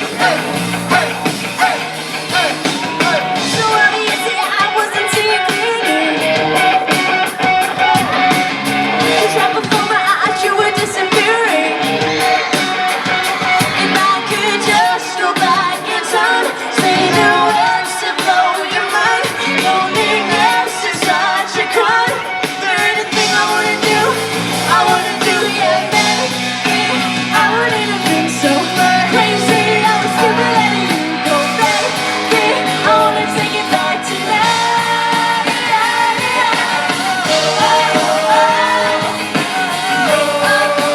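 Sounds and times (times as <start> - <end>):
people yelling: 0.0 - 5.7, 6.4 - 40.9
live pop-rock band: 0.0 - 40.9
loud singing: 0.0 - 40.9.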